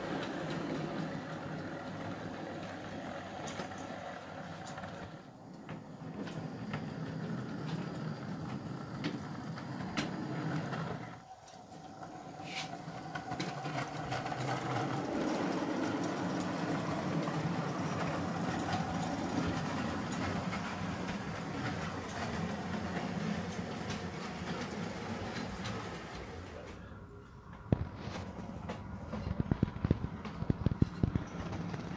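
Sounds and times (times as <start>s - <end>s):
model train rumbling on track: 0.0s - 31.9s.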